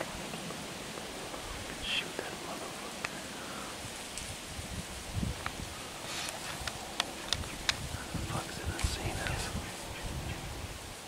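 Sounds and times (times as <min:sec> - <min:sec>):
dry leaves rustling: 0:00.0 - 0:10.8
steady hiss: 0:00.0 - 0:11.0.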